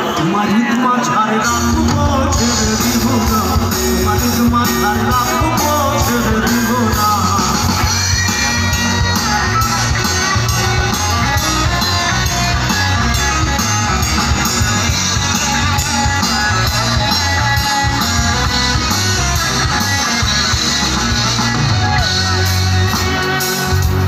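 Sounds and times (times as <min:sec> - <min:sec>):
guitars over a steady beat: 0:00.0 - 0:24.0
live band music: 0:00.0 - 0:24.0.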